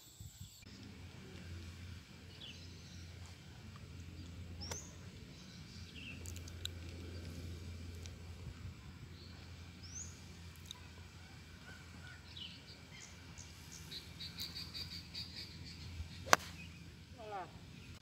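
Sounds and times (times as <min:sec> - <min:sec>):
steady low hum: 0:00.0 - 0:18.0
birds chirping: 0:00.6 - 0:18.0.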